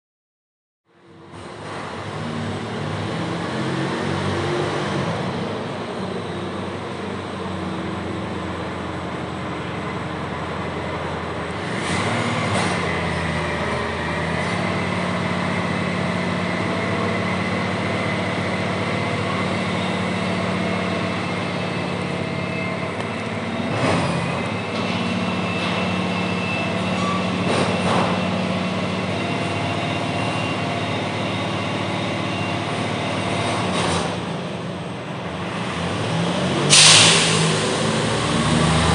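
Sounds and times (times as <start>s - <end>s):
garbage truck engine drone: 0.9s - 38.9s.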